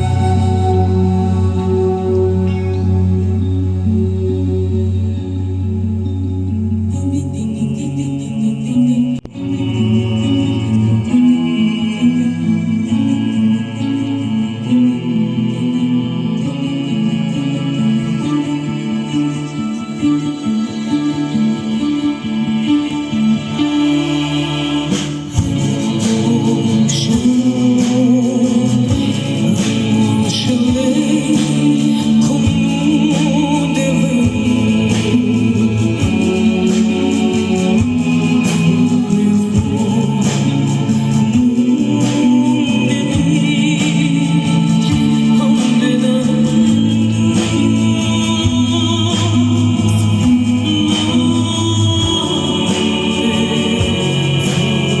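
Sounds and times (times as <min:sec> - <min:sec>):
choir-like voices: 0:00.0 - 0:55.0
held instrumental chords: 0:00.0 - 0:55.0
live concert music: 0:00.0 - 0:55.0.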